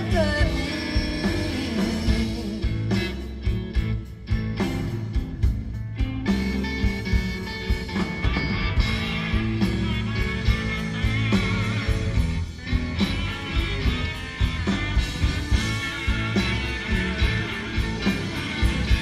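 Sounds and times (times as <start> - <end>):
electric guitars: 0.0 - 19.0
live rock band playing: 0.0 - 19.0
steady drum beat: 0.0 - 19.0.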